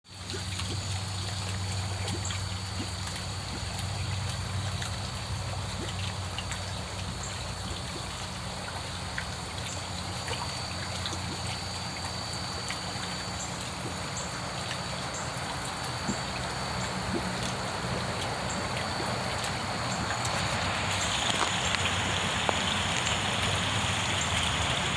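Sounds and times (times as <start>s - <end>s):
water trickling: 0.1s - 24.9s.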